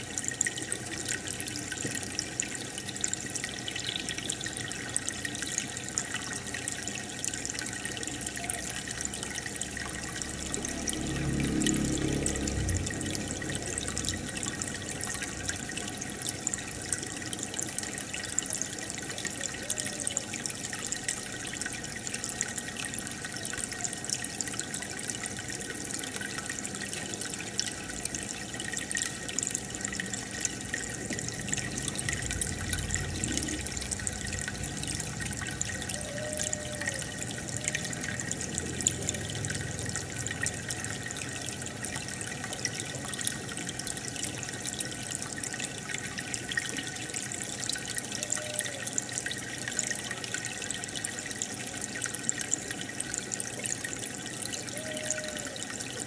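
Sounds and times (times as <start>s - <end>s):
air bubbles streaming: 0.0s - 56.0s
aquarium water bubbling and trickling: 0.0s - 56.0s.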